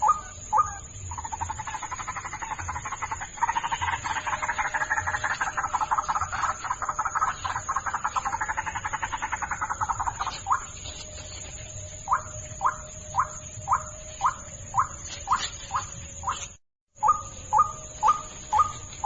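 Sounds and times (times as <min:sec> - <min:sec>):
bird croaking notes: 0:00.0 - 0:11.0, 0:12.0 - 0:19.0.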